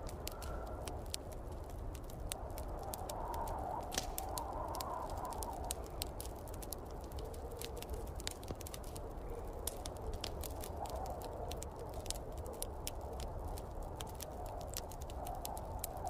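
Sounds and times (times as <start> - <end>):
snowstorm wind rumble: 0.0 - 16.0
wood fire crackling and popping: 0.0 - 16.0.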